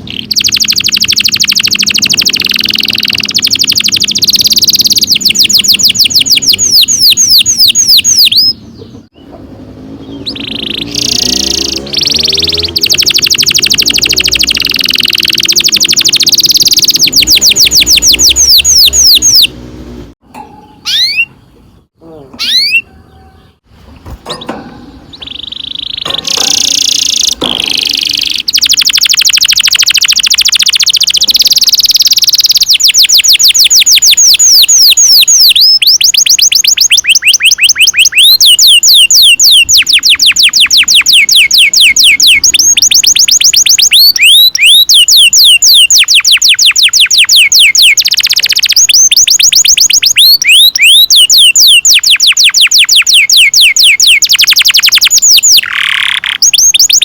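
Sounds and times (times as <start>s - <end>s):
canary chirps: 0.0s - 57.0s
canary singing trills: 0.0s - 57.0s.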